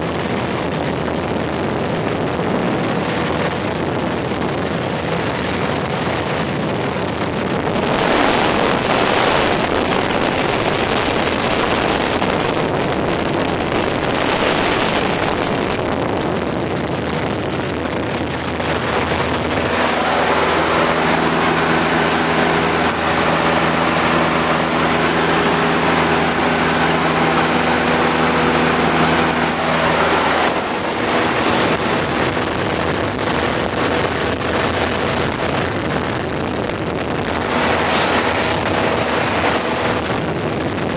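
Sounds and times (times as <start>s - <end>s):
light aircraft engine and propeller: 0.0s - 40.9s
loud airflow noise: 0.0s - 40.9s.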